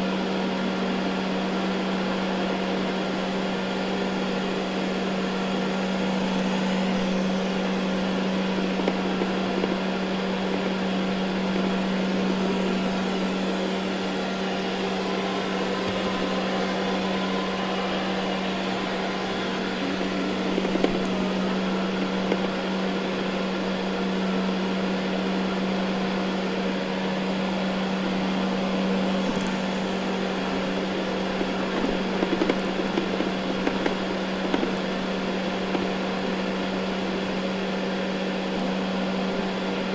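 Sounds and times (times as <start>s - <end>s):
robot vacuum running on carpet: 0.0s - 39.9s.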